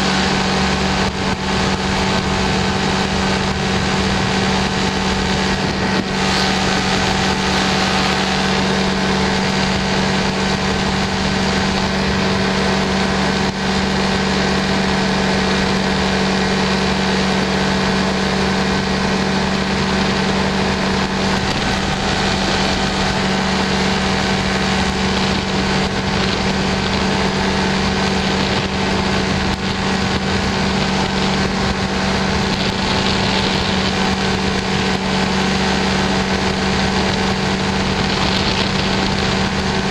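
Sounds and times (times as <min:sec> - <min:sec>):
light aircraft engine drone: 0:00.0 - 0:39.9
wind on microphone: 0:00.0 - 0:39.9.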